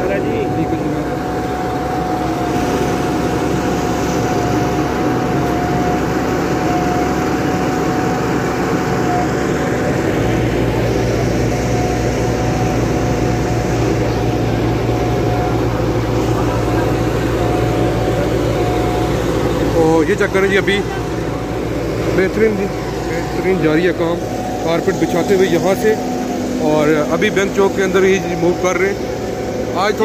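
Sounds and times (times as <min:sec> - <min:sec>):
diesel engine running: 0:00.0 - 0:30.0
thin steady whine: 0:00.0 - 0:30.0.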